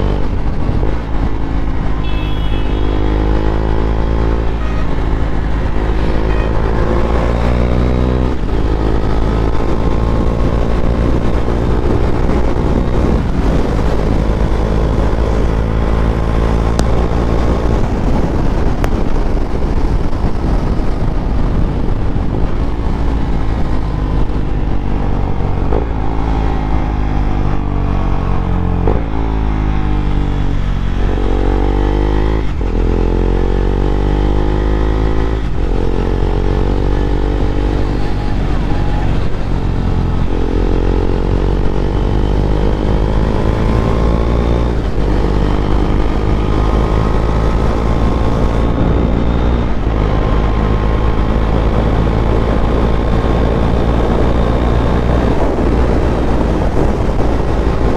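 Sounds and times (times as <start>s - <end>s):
motorcycle accelerating through gears: 0.0s - 57.9s.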